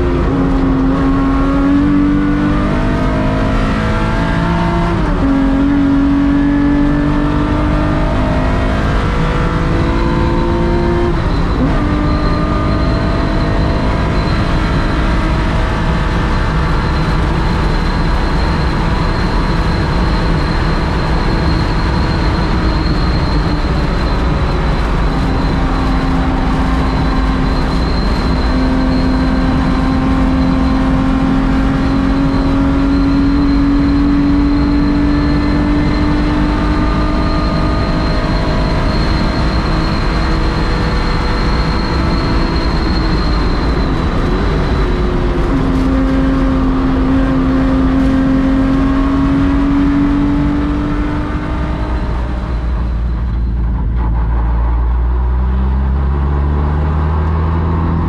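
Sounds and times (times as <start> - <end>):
race car engine at high speed: 0.0 - 58.0
wind and road noise: 0.0 - 58.0.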